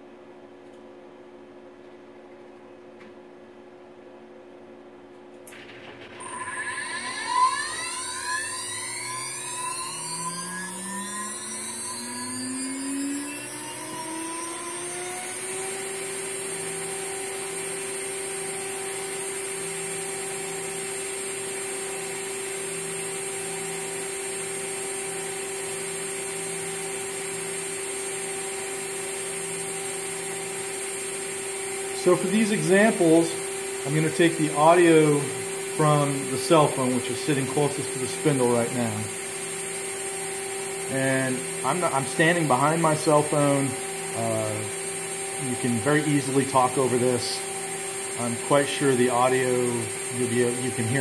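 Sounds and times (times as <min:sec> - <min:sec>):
router spindle high-pitched whine: 0:05.5 - 0:51.0.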